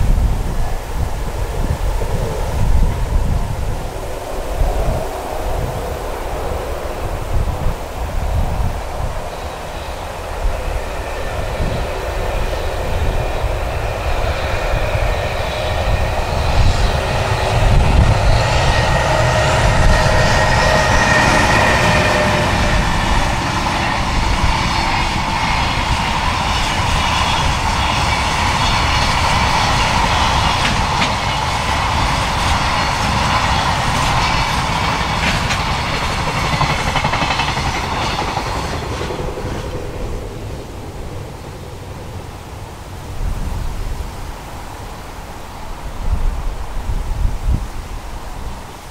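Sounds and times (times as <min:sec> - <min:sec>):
electric locomotive passing: 0:00.0 - 0:48.9
freight train running on rails: 0:00.0 - 0:48.9.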